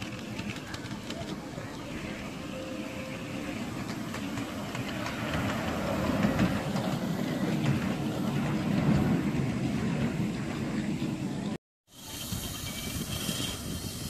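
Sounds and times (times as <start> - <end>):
miniature train rumbling past: 0.0 - 14.0
wheels clicking on rails: 0.0 - 14.0.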